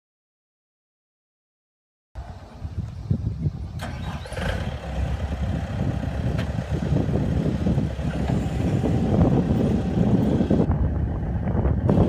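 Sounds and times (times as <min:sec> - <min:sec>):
diesel engine idling: 0:02.2 - 0:12.0.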